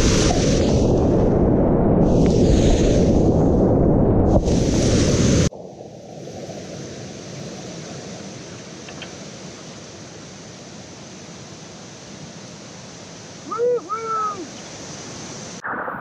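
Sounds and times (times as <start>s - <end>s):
water rushing and splashing: 0.0s - 1.3s, 4.3s - 16.0s.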